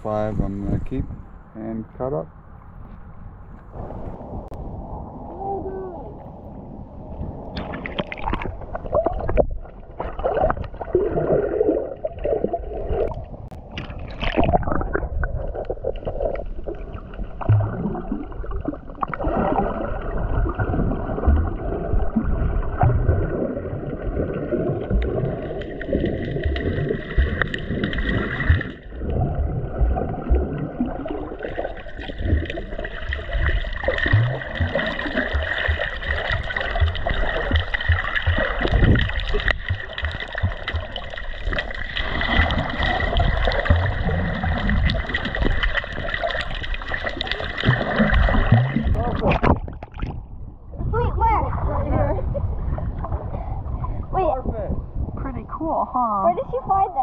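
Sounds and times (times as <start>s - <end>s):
muffled underwater sloshing: 0.0s - 57.0s.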